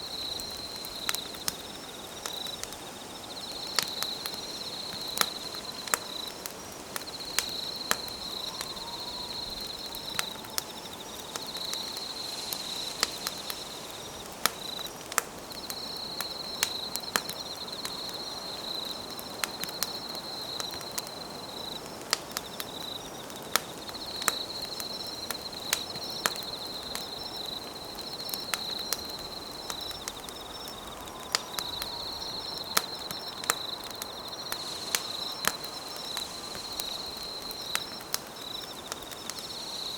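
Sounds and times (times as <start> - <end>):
campfire crackling and popping: 0.0 - 39.9
insects trilling: 0.0 - 39.9.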